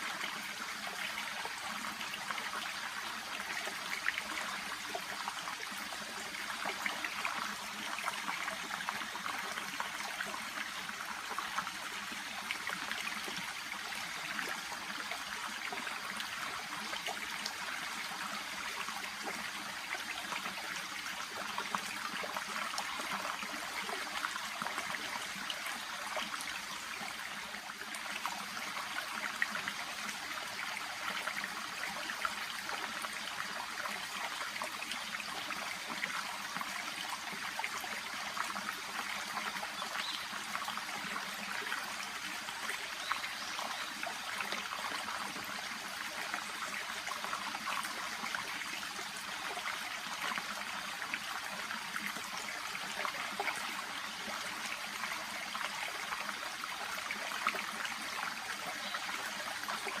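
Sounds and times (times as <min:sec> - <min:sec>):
brook babbling: 0:00.0 - 1:00.0.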